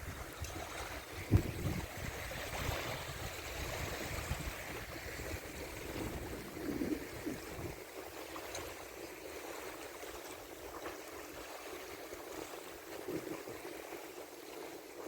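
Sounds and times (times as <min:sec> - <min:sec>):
wind rumble on microphone: 0:00.0 - 0:09.8, 0:10.8 - 0:14.2
water rushing and splashing: 0:00.0 - 0:15.0.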